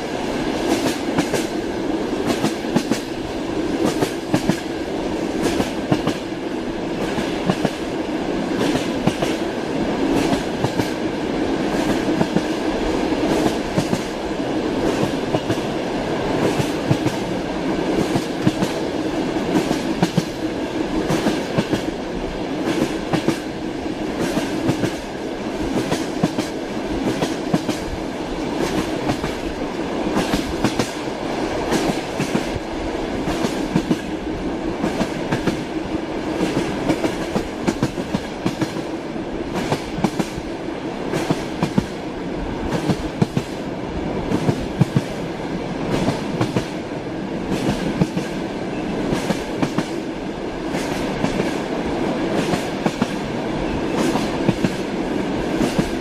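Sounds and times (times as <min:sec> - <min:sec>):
train wheels clattering over rails: 0:00.0 - 0:22.0, 0:22.6 - 0:42.0, 0:42.7 - 0:43.6, 0:44.2 - 0:45.2, 0:45.8 - 0:56.0.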